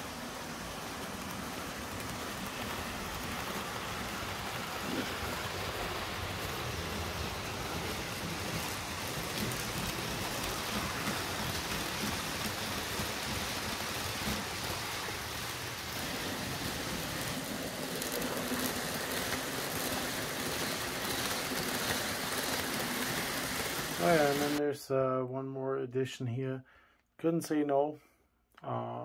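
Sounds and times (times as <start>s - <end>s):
model train wheels rolling on rails: 0.0s - 24.6s.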